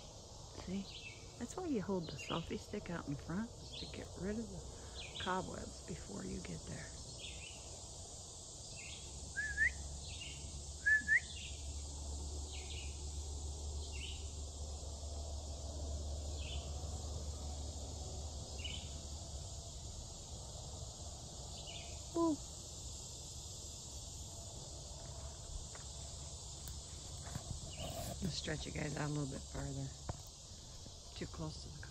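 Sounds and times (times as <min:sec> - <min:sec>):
insect chorus buzzing: 0:00.0 - 0:31.9.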